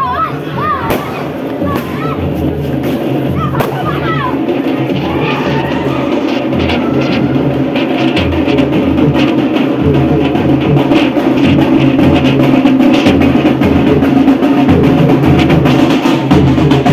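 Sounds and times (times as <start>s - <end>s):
drums beaten fast: 0.0s - 16.9s.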